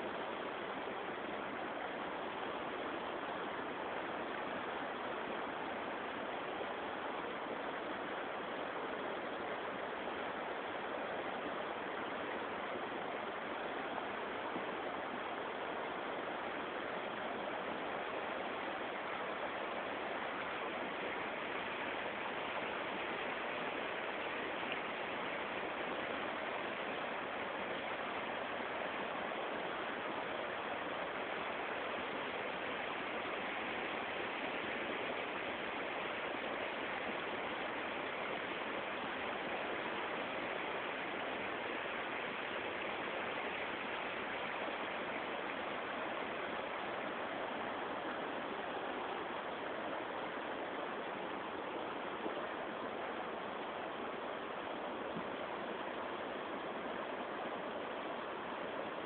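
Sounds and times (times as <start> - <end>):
floodwater rushing over rocks: 0.0 - 59.0.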